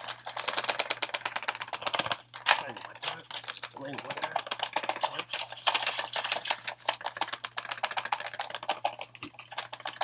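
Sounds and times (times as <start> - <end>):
packaging clicks and crackles: 0.0 - 10.0.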